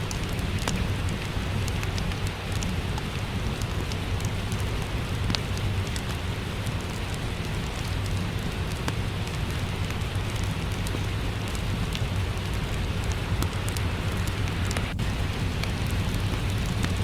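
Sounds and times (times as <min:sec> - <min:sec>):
fireplace crackling: 0:00.0 - 0:17.0
steady rain: 0:00.0 - 0:17.0.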